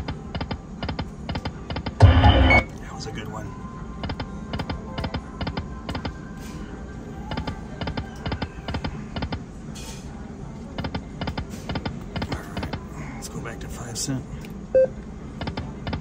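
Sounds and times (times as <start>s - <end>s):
casino background noise: 0.0s - 16.0s.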